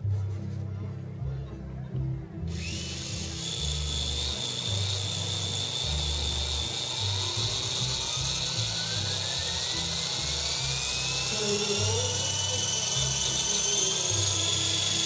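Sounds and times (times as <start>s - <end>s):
background music: 0.0s - 15.0s
electric motor whine: 2.5s - 15.0s
rotor tone rising in pitch: 2.5s - 15.0s.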